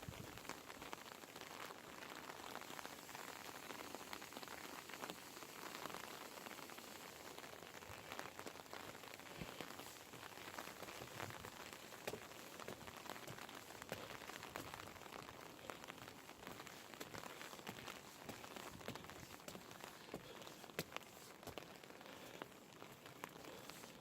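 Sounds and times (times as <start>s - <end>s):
rain falling: 0.0s - 24.0s
raindrops ticking close by: 0.0s - 24.0s.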